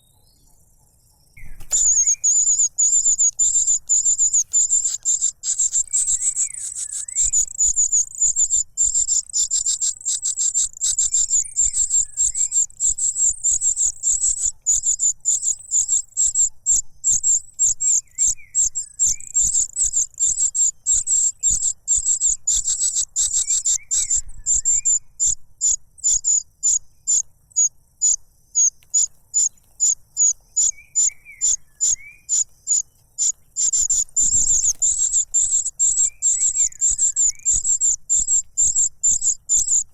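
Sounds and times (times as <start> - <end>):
faint low chirps: 0.0 - 39.9
young cuckoo chittering call: 0.0 - 39.9.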